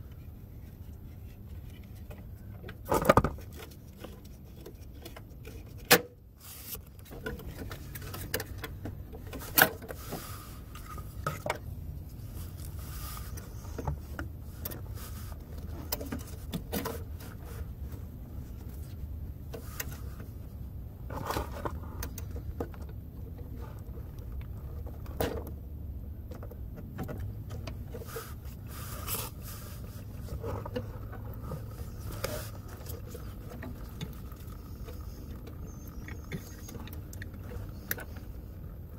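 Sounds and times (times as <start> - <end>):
scraping and handling noises: 0.0 - 25.6, 26.2 - 38.9.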